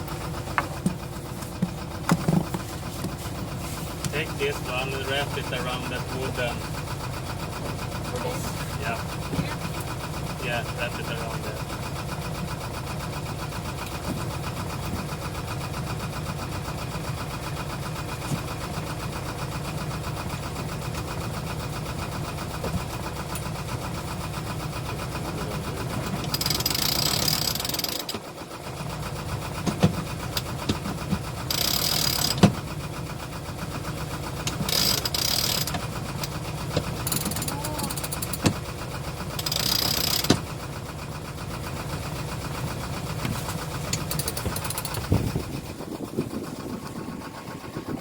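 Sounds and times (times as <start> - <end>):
boat engine droning: 0.0 - 48.0.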